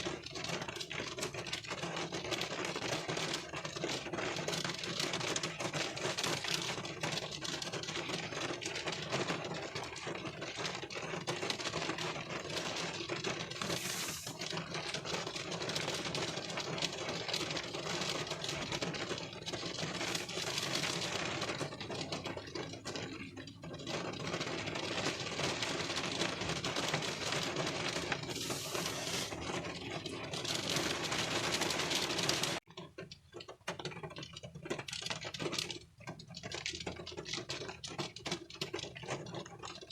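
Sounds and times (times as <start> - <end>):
rain pattering on windshield: 0.0 - 39.9.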